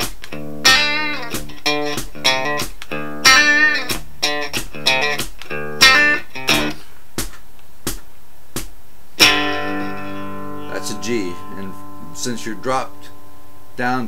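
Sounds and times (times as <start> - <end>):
electric guitar playing: 0.0 - 6.8, 9.2 - 14.0.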